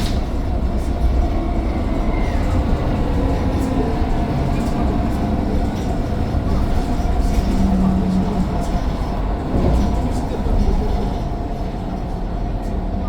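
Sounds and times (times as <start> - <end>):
bus engine rumbling: 0.0 - 13.0.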